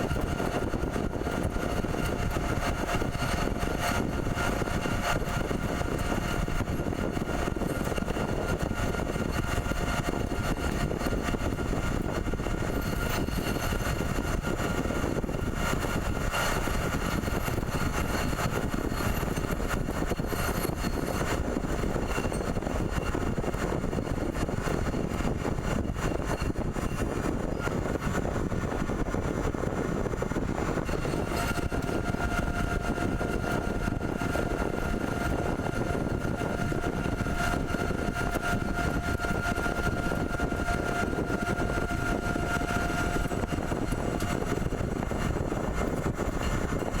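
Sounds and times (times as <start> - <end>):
pipe threading machine running: 0.0 - 47.0
steady machine whine: 0.0 - 47.0.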